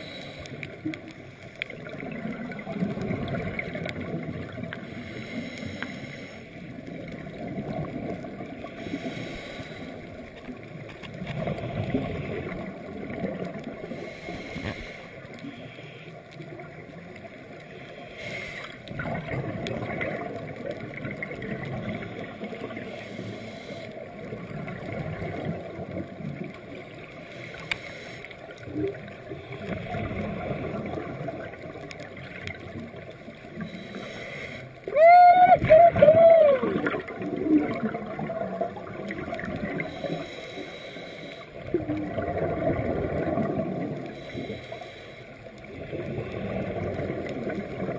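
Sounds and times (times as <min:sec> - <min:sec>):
muffled underwater bubbling: 0:00.0 - 0:47.9.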